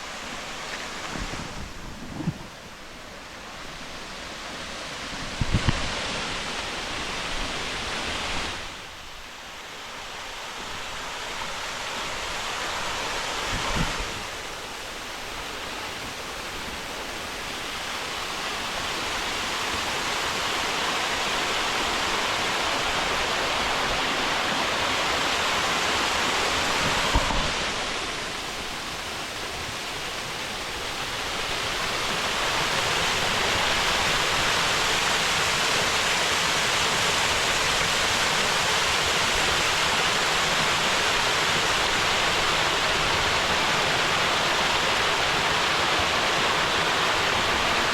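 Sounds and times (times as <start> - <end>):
waterfall roaring: 0.0 - 47.9.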